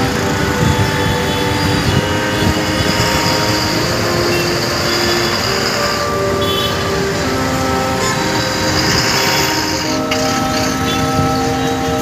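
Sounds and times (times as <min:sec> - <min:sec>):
fire engine engine running: 0:00.0 - 0:12.0
street traffic: 0:00.0 - 0:12.0.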